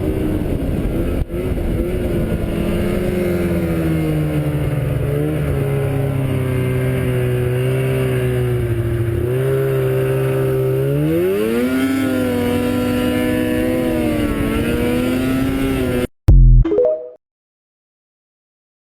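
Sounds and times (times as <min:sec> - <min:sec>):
engine running and revving: 0:00.0 - 0:16.1.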